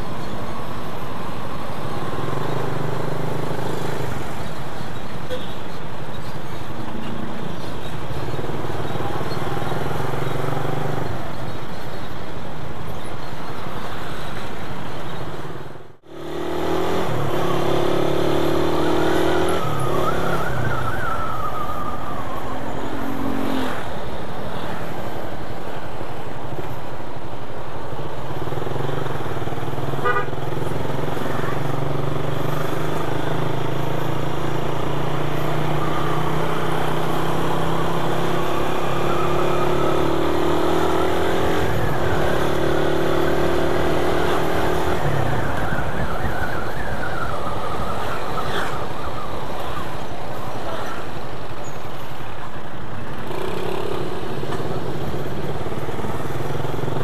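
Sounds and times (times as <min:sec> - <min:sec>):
traffic road noise: 0:00.0 - 0:57.0.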